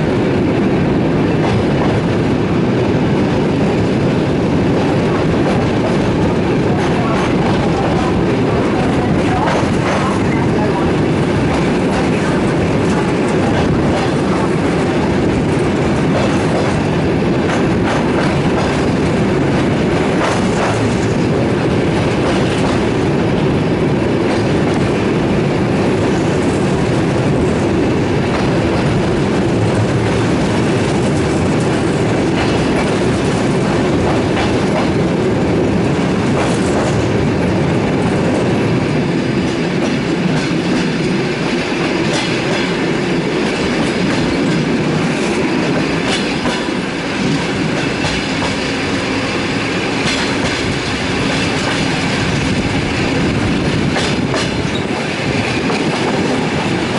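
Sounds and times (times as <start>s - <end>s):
train wheels rolling on rail: 0.0s - 56.9s.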